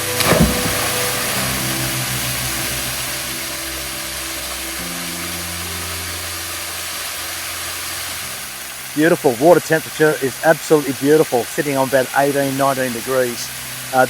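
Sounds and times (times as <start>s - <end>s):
slow low background music: 0.0s - 12.8s
waterfall rushing hiss: 0.0s - 14.0s.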